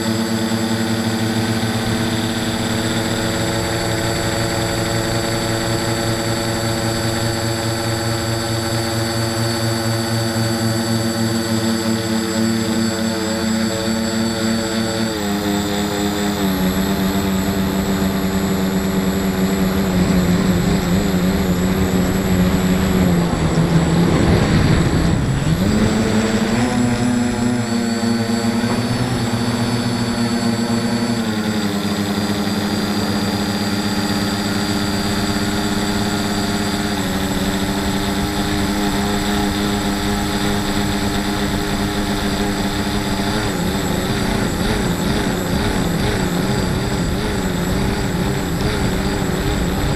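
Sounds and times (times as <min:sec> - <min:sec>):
drone motors and propellers whining: 0:00.0 - 0:49.9.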